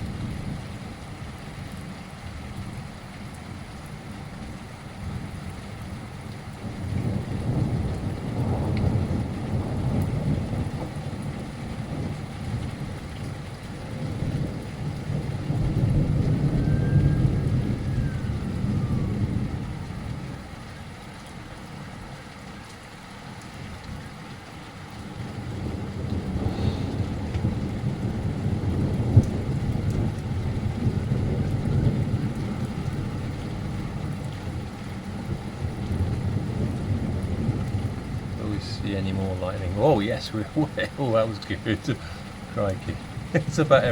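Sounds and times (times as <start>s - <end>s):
heavy rain: 0.0s - 43.9s
thunder rumbling: 3.2s - 21.0s, 24.9s - 43.9s.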